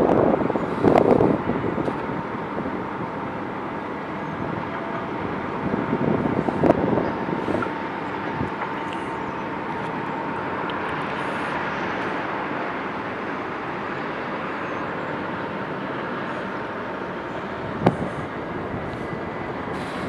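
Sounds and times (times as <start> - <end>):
heavy machinery rumble: 0.0 - 20.0.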